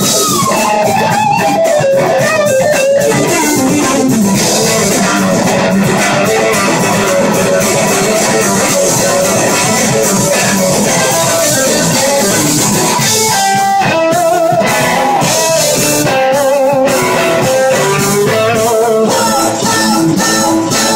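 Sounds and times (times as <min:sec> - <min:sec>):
electric slide guitar solo: 0:00.0 - 0:20.9
live band playing: 0:00.0 - 0:20.9.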